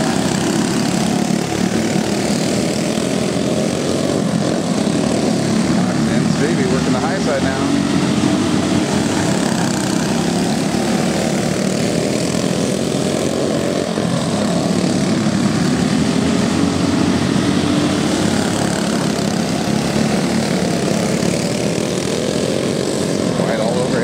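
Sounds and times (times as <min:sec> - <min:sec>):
go-kart engines racing: 0:00.0 - 0:24.0.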